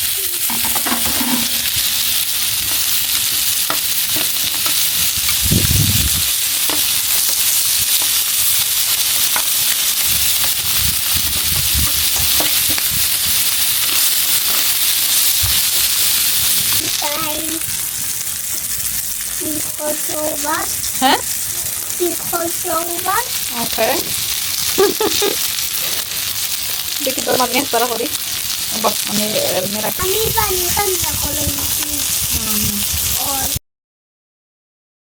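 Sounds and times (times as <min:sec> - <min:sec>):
chicken sizzling on a grill: 0:00.0 - 0:33.6.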